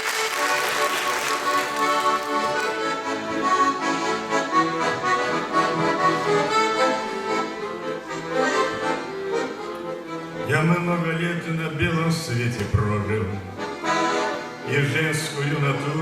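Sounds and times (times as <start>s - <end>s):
accordion playing: 0.0s - 16.0s.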